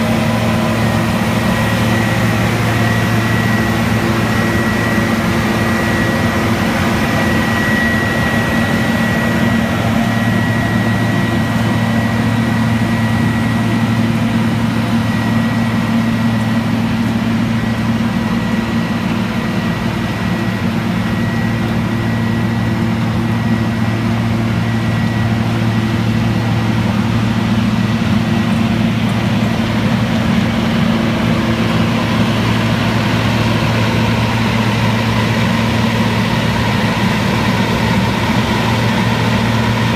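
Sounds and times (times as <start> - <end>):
diesel engine running: 0.0 - 39.9
thin high whine: 0.0 - 39.9.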